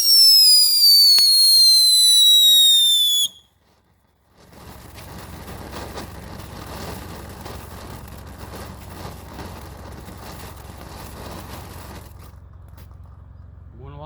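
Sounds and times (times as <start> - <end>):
firework fountain crackling: 0.0 - 12.9.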